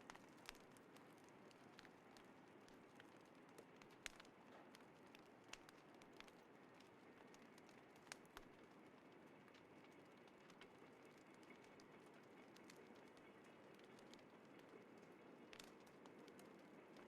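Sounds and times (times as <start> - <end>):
fire popping: 0.0 - 17.0
small fire crackling: 0.0 - 17.0.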